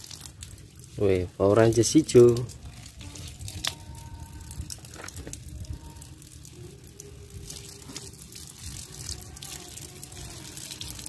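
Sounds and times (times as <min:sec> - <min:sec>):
water drips and splats: 0:00.0 - 0:11.0
water stream splashing on rock: 0:00.0 - 0:11.0.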